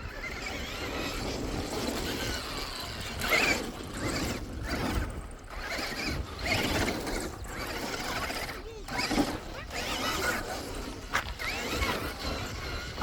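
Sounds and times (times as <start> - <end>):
rc car motor whining: 0.0 - 13.0.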